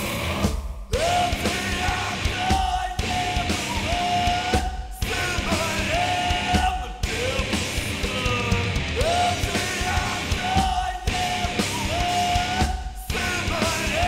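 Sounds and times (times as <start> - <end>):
metal band playing: 0.0 - 14.0
singer yelling vocals: 0.0 - 14.0.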